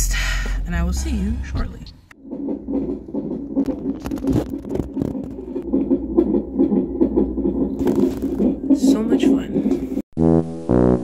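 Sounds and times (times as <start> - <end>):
fetal heartbeat whooshes: 0.2 - 10.0.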